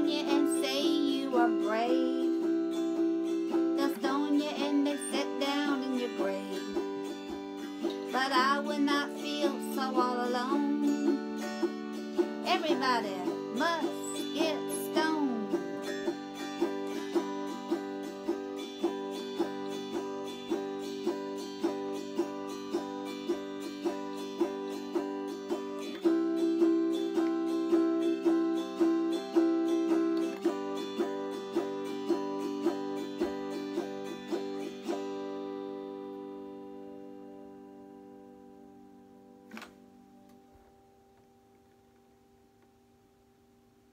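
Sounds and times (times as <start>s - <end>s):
sliding melody line: 0.0s - 35.2s
autoharp strummed chords: 0.0s - 40.7s.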